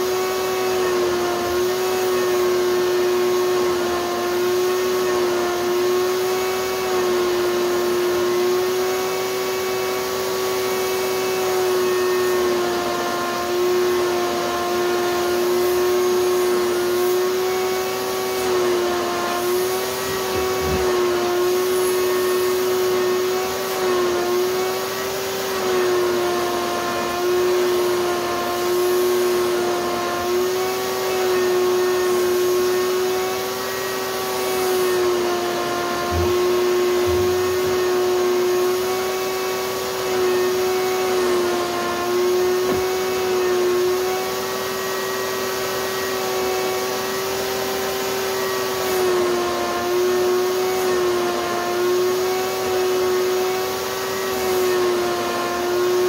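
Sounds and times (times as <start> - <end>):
shop vac motor whine: 0.0 - 56.0.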